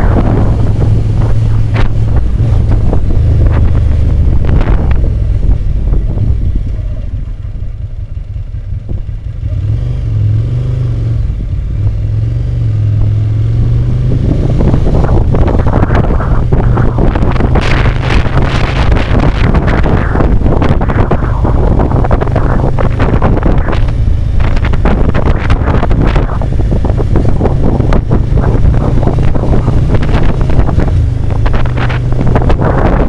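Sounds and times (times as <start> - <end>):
wind rush over microphone: 0.0 - 7.4, 10.1 - 33.0
motorcycle engine drone: 0.0 - 33.0.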